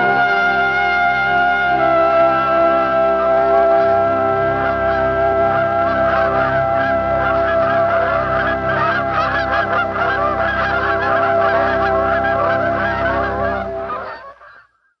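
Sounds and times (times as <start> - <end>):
steady held tones: 0.0 - 14.2
geese honking: 0.0 - 14.7.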